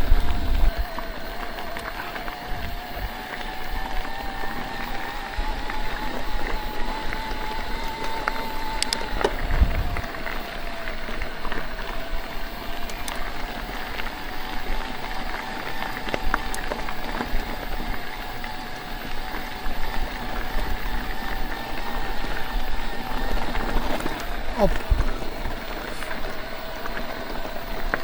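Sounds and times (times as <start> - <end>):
electric bike motor whining: 0.0 - 28.0
tyres on gravel: 0.0 - 28.0.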